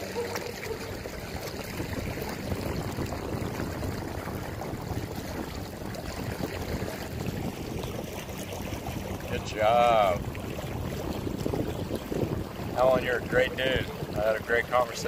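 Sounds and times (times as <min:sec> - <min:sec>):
water rushing along a boat hull: 0:00.0 - 0:15.0.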